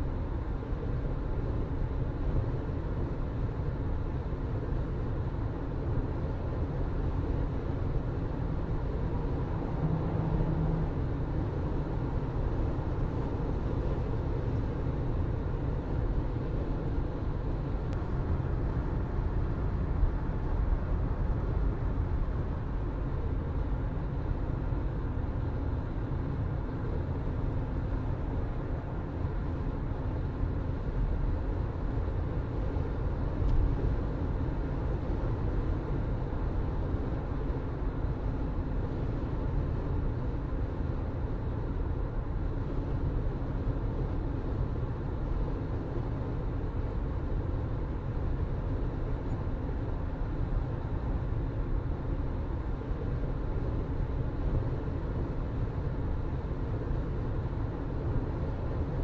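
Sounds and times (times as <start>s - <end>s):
car engine hum and road noise: 0.0s - 59.0s.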